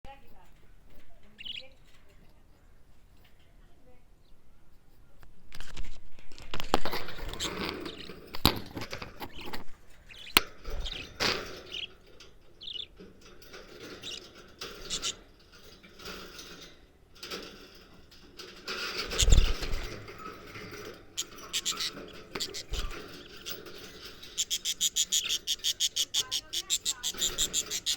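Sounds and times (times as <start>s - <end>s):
parrots scratching and tapping: 5.5s - 27.9s.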